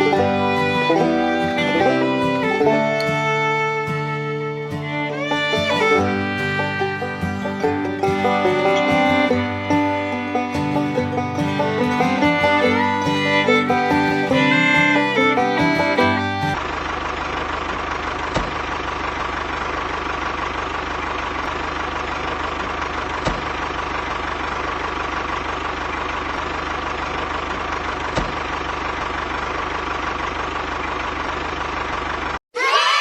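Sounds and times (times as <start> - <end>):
engine idling: 0.0 - 32.4.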